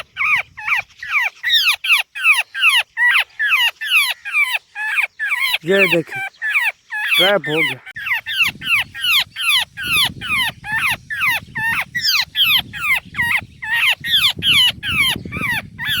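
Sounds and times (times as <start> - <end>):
bird calling rapidly: 0.0 - 16.0.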